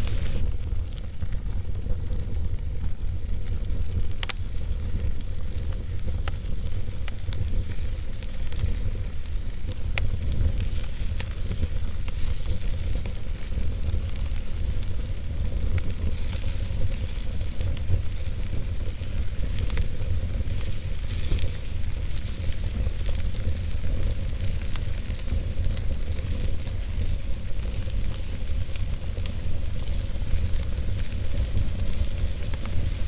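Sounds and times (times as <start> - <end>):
fire crackles and pops: 0.0 - 33.0
flames rumbling and hissing: 0.0 - 33.0.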